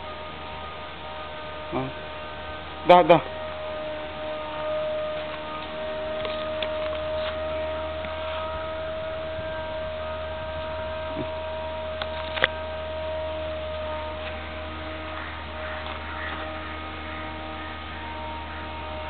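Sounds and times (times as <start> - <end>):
constant high tone: 0.0 - 19.0
steady hum: 0.0 - 19.0.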